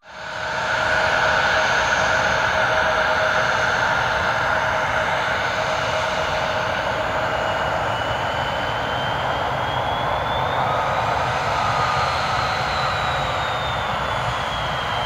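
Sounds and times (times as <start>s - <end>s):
jet engines spooling up: 0.1s - 15.0s.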